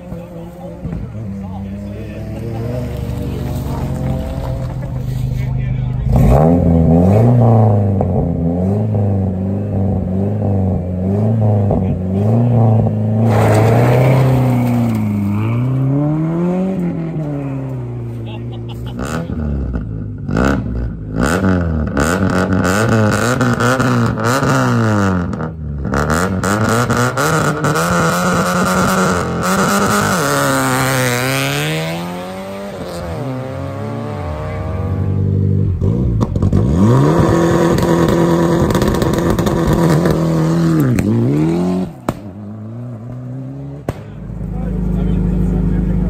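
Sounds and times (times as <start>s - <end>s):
rally car engine revving: 0.0s - 46.0s.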